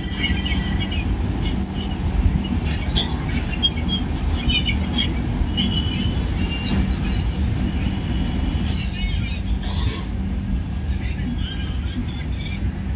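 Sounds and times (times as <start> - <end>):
constant hum: 0.0 - 12.9
train wheels rumbling on rail: 0.0 - 12.9.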